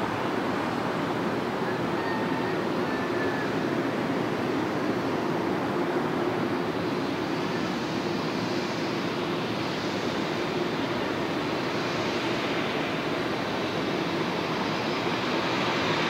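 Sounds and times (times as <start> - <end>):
distant jet engines idling: 0.0 - 16.0.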